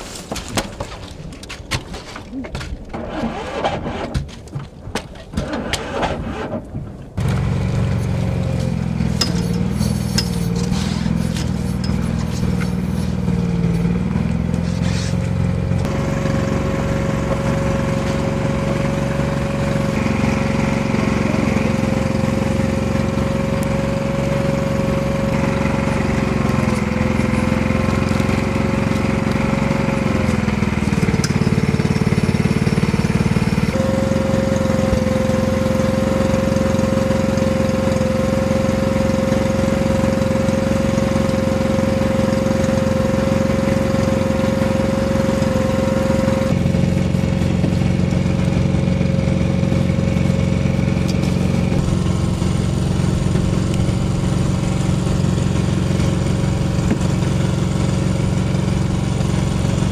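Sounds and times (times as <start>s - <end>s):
boat engine idling: 0.2s - 59.9s.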